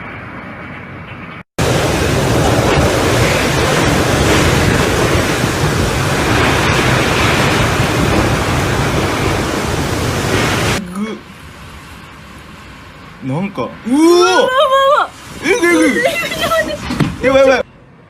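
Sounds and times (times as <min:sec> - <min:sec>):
storm wind buffeting microphone: 0:01.6 - 0:10.8, 0:11.4 - 0:17.6.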